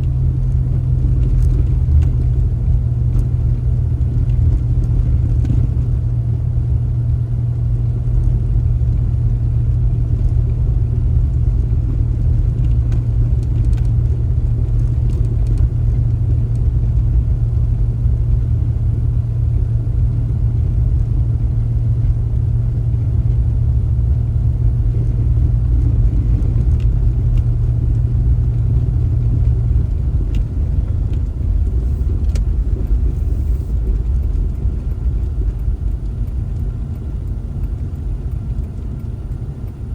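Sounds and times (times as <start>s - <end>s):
car driving rumble: 0.0s - 39.9s
low hum: 0.0s - 39.9s.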